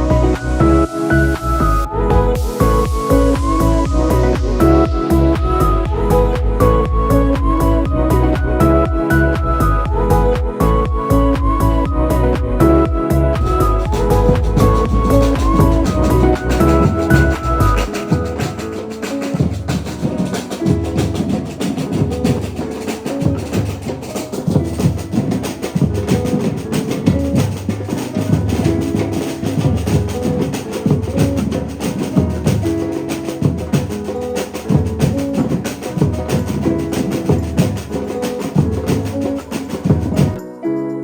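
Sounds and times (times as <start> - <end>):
music with drum beat: 0.0 - 11.7, 12.3 - 40.4.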